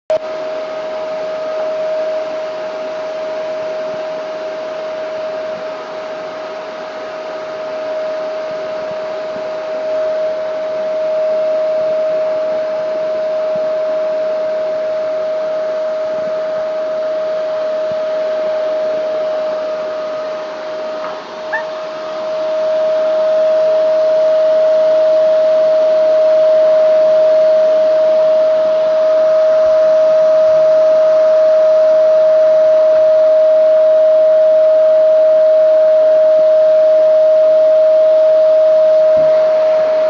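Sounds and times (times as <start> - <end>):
vacuum cleaner running: 0.1 - 40.0.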